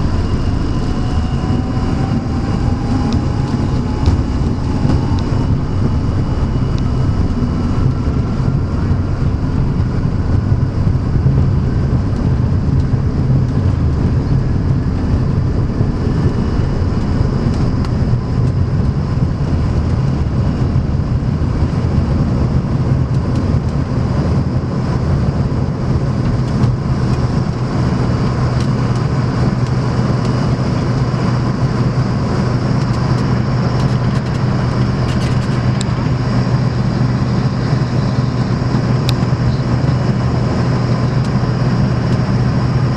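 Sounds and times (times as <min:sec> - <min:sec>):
engine whine: 0:00.0 - 0:42.9
jet engines roaring: 0:00.0 - 0:42.9
wheels rumbling on runway: 0:00.0 - 0:42.9.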